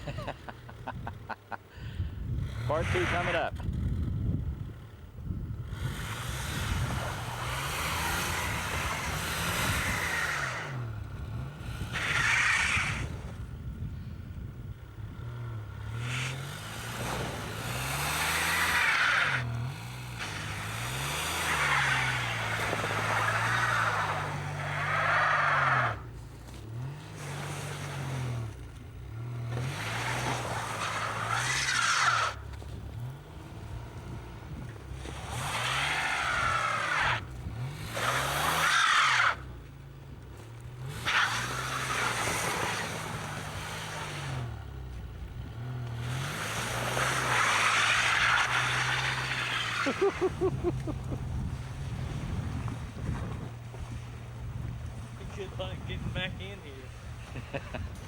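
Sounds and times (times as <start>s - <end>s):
tyres spinning on snow: 0.0s - 58.0s
car engine revving: 2.4s - 4.1s, 5.6s - 13.6s, 14.9s - 58.0s.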